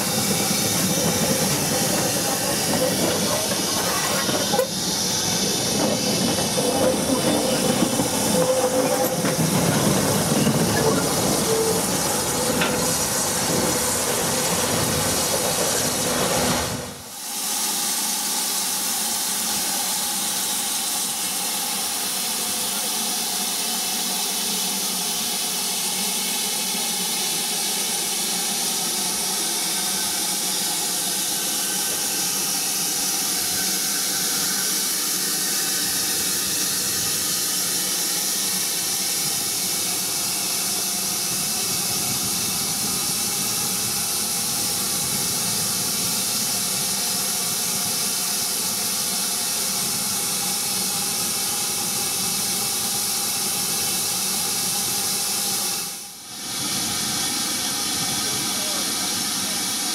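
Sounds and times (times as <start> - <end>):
steam hissing: 0.0 - 59.9
steam locomotive rumble: 0.0 - 59.9.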